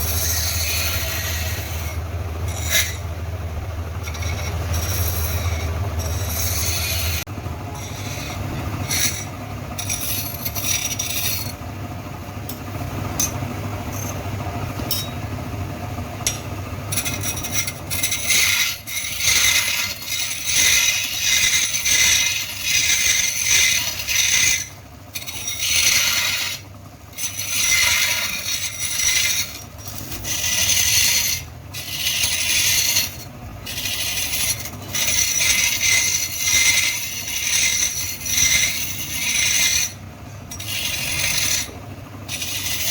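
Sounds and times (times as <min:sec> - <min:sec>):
scraping strokes: 0:00.0 - 0:11.6, 0:16.2 - 0:42.9
low workshop hum: 0:00.0 - 0:42.9.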